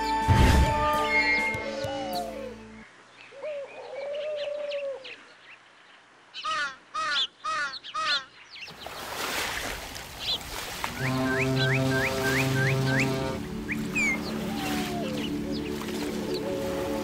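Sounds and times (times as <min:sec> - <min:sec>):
bird calls: 0:01.2 - 0:09.1, 0:10.2 - 0:17.0.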